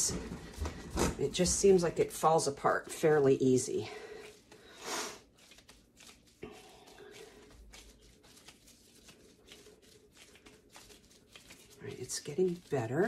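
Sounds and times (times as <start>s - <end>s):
gloved hands kneading dough: 0.0s - 13.0s.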